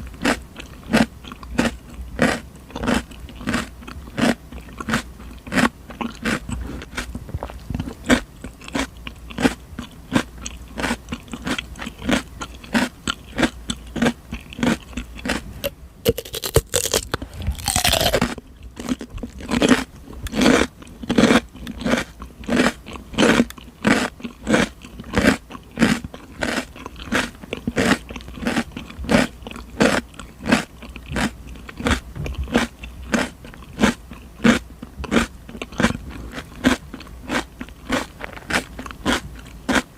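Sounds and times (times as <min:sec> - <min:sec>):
chewing crisp cucumber crunches: 0:00.0 - 0:39.9.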